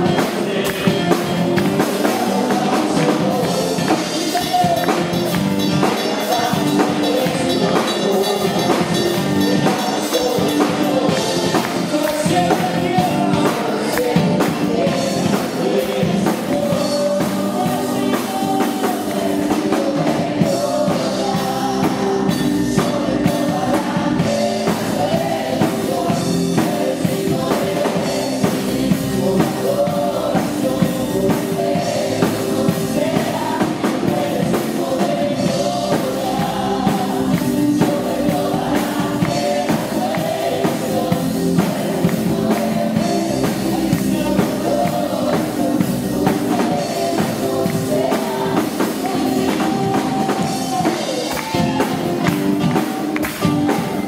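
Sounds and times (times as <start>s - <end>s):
drums and cymbals: 0.0s - 54.0s
live band with singing: 0.0s - 54.0s.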